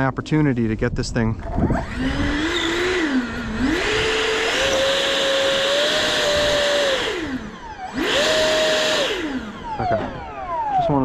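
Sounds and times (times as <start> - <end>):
electric ducted fan whine: 0.0 - 11.0.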